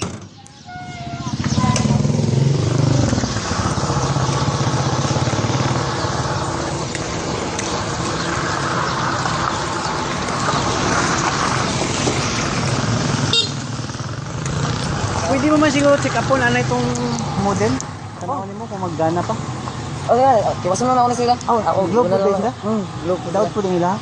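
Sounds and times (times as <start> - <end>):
outdoor street noise: 0.0 - 24.0
vehicle engine running: 0.4 - 24.0.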